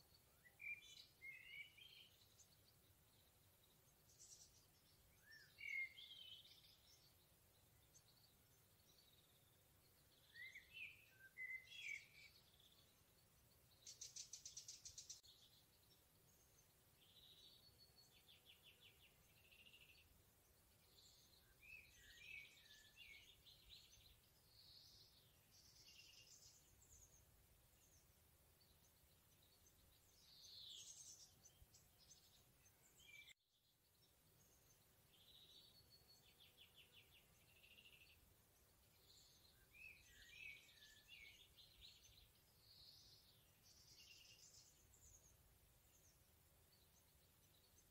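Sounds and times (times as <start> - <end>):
faint background hiss: 0.0 - 47.9
songbirds chirping: 0.0 - 47.9.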